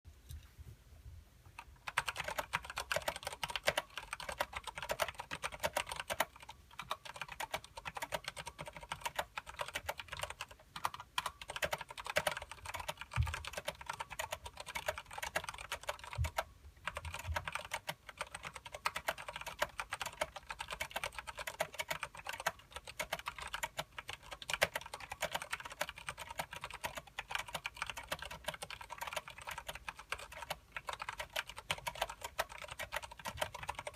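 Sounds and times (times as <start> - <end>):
fast mechanical keyboard typing: 1.8 - 33.9.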